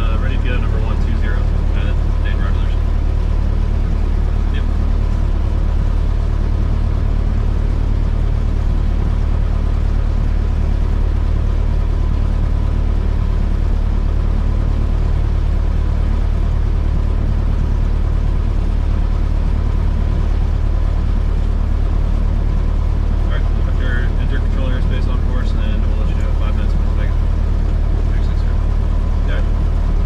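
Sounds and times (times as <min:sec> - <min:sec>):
airplane engine droning in cabin: 0:00.0 - 0:30.0.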